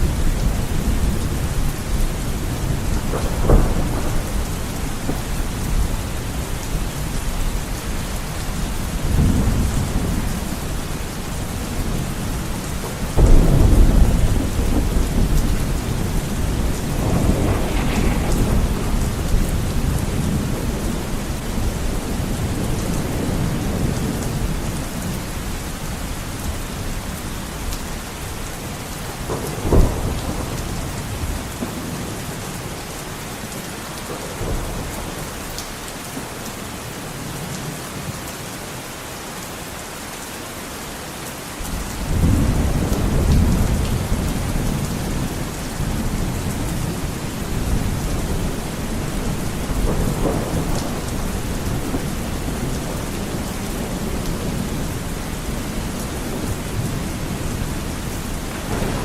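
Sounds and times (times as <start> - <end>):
heavy rain on a window pane: 0.0 - 59.0.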